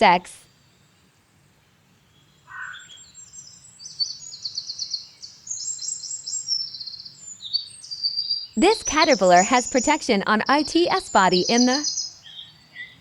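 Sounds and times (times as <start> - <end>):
songbird chirping and trilling: 2.1 - 13.0.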